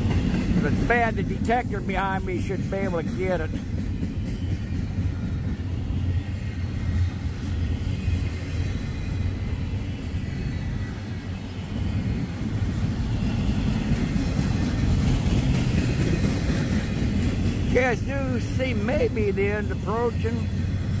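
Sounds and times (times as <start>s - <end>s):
train wheels rumbling on track: 0.0s - 21.0s.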